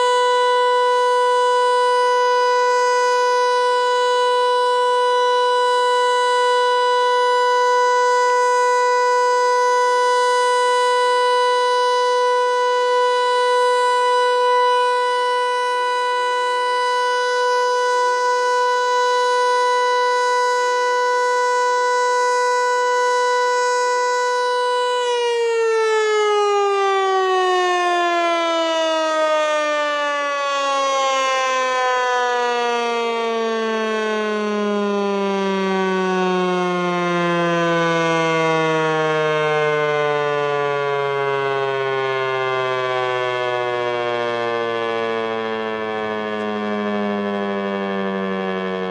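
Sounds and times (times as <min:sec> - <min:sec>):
loud warning siren winding down: 0:00.0 - 0:48.9.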